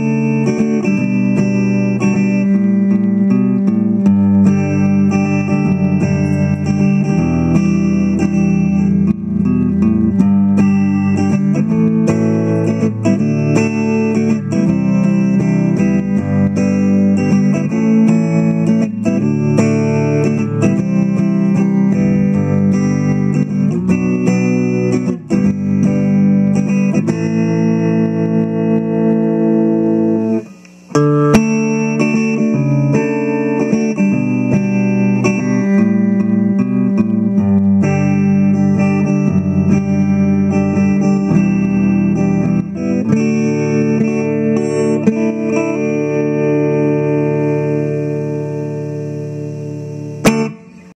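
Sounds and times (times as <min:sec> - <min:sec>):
plucked guitar notes and chords: 0:00.0 - 0:50.9.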